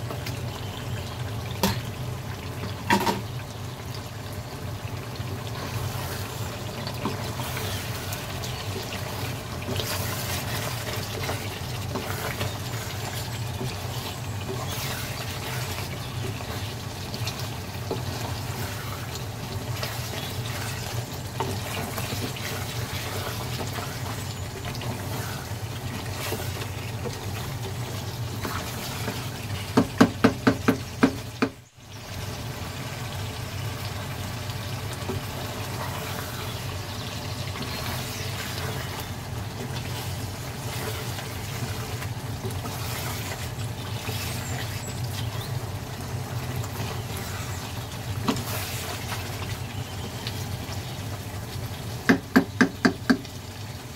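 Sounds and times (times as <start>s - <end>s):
curry bubbling and sizzling: 0.0s - 53.9s.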